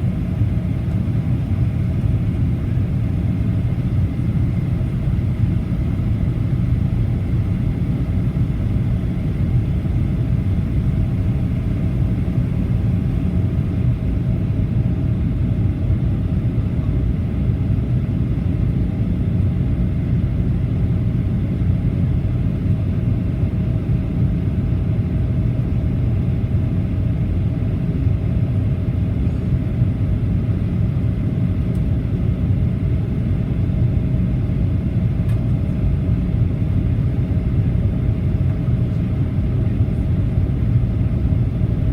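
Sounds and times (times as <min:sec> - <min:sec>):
aircraft cabin rumble: 0:00.0 - 0:41.9.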